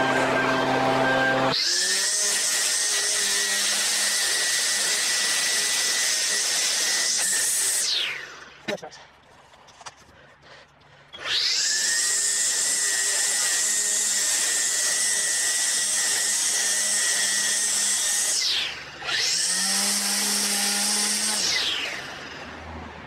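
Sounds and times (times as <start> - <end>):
electric string trimmer whining: 0.0 - 8.7, 11.1 - 23.0.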